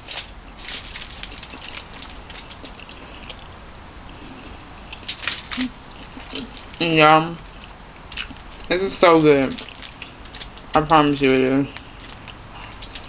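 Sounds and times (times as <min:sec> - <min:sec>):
close-up chewing: 0:00.0 - 0:13.0.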